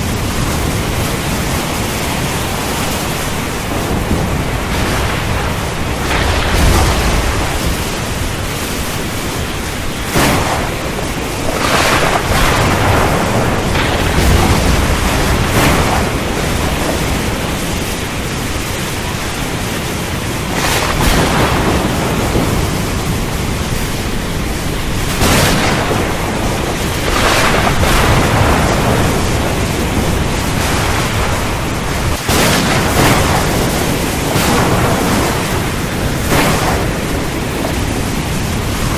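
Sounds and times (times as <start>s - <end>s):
heavy rain: 0.0s - 38.9s
thunder cracking and rumbling: 0.0s - 38.9s.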